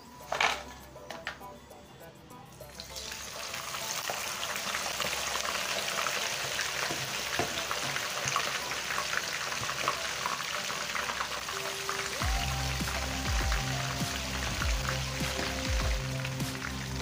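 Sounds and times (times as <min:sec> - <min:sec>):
oil sizzling and crackling: 0:02.6 - 0:17.0.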